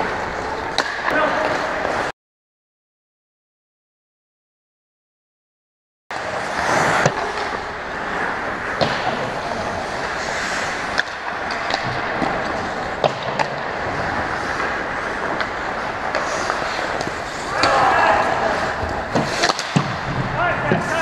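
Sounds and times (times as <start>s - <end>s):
hockey sticks and puck clacking: 0.0s - 2.1s, 6.2s - 21.0s
skates scraping on ice: 0.0s - 2.1s, 6.2s - 21.0s.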